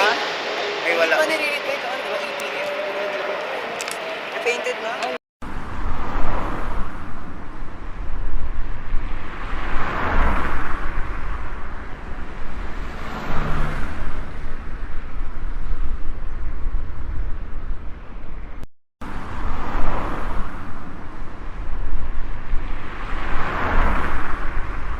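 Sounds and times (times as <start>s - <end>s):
low traffic rumble: 0.0s - 24.9s
vehicles passing: 0.0s - 24.9s.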